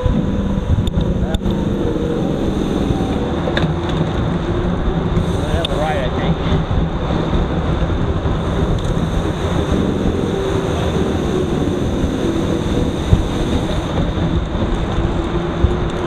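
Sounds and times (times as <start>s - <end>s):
bike tyres rolling on pavement: 0.0s - 16.0s
wind buffeting microphone: 0.0s - 16.0s.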